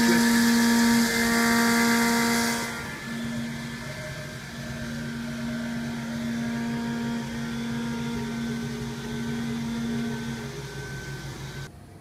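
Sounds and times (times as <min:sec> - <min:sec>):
held machine tone: 0:00.0 - 0:11.7
milling machine cutting metal: 0:00.0 - 0:11.7.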